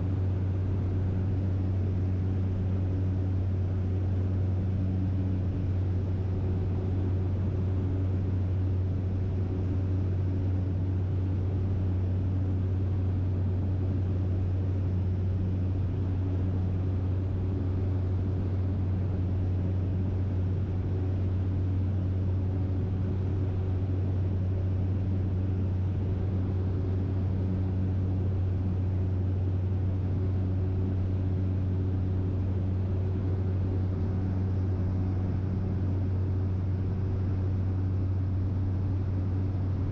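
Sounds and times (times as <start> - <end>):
propeller plane drone in cabin: 0.0 - 39.9.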